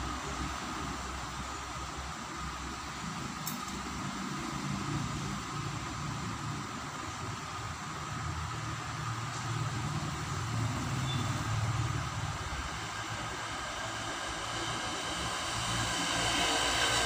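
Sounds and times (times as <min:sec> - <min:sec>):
hiss: 0:00.0 - 0:17.0
low mechanical rumble: 0:00.0 - 0:17.0.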